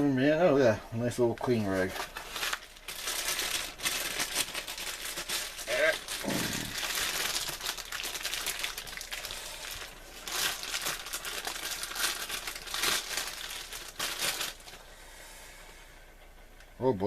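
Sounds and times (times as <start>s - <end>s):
packaging crinkling and rustling: 1.1s - 14.9s.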